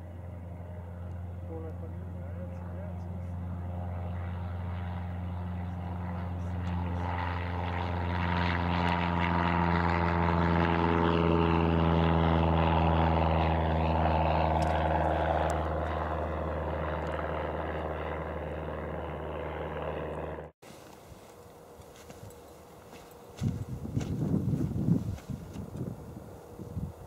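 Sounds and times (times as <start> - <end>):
aircraft engine drone: 0.0 - 27.0.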